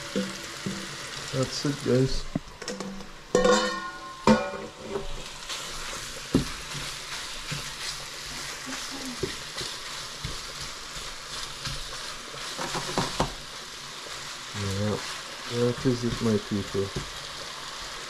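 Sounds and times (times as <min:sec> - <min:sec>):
meat sizzling in oil: 0:00.0 - 0:18.0.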